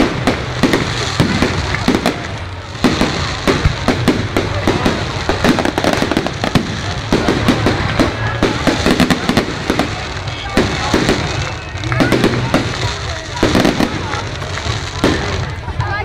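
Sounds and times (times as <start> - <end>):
firework shells bursting: 0.0 - 15.7
firework crackle: 0.0 - 16.0.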